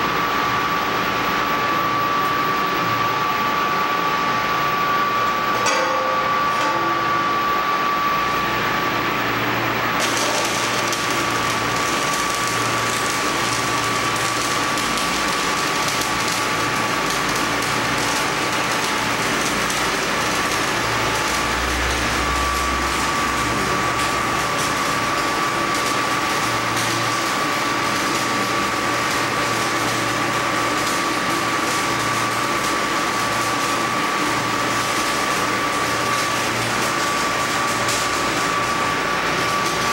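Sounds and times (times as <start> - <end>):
welding arc crackling hiss: 0.0 - 39.9.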